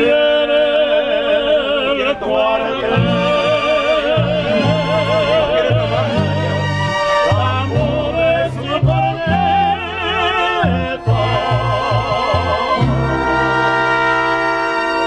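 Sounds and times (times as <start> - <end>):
violins with vibrato: 2.1 - 15.0
bass guitar line: 2.9 - 15.0.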